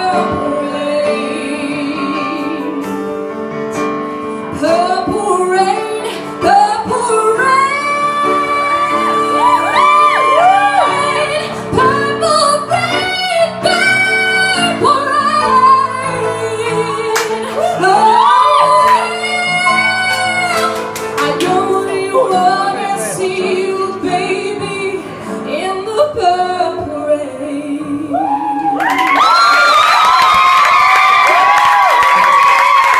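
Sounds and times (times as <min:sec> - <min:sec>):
woman singing: 0:00.0 - 0:03.2, 0:04.5 - 0:29.7
piano accompaniment: 0:00.0 - 0:32.9.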